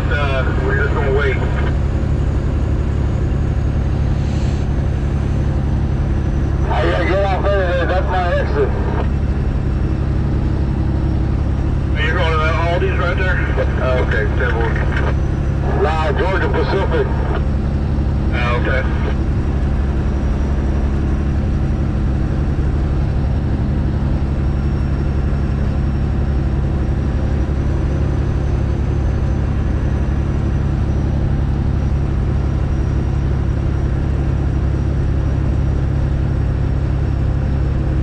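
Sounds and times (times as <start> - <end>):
diesel truck engine rumbling: 0.0 - 38.0.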